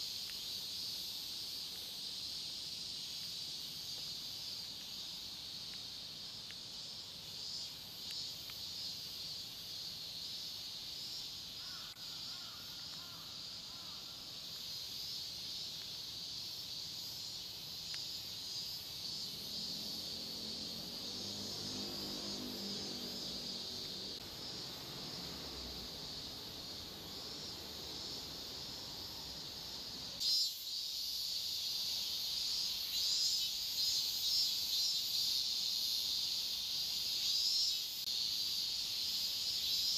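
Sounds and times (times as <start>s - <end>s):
insect chorus chirring: 0.0s - 39.9s.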